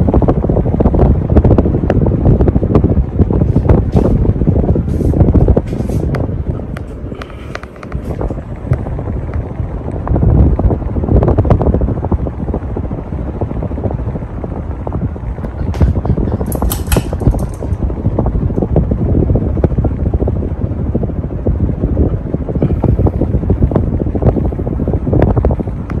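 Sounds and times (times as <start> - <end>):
ceiling fan wind rumble: 0.0 - 26.0.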